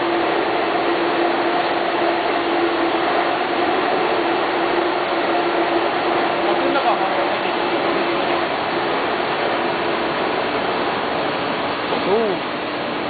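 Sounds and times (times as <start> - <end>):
constant machinery hiss: 0.0 - 13.0
steady machinery hum: 0.0 - 13.0.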